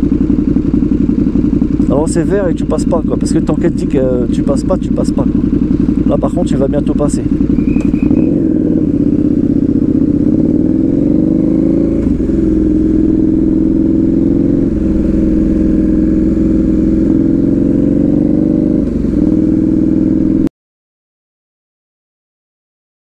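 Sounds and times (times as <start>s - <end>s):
motorcycle accelerating: 0.0s - 20.5s.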